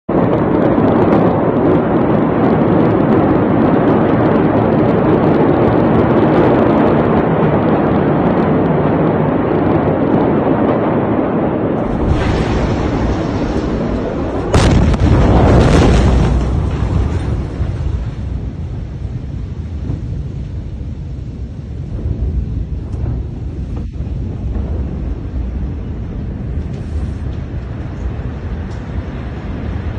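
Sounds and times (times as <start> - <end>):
fire crackling and popping: 0.1 - 29.9
heavy explosion blast: 0.1 - 29.9.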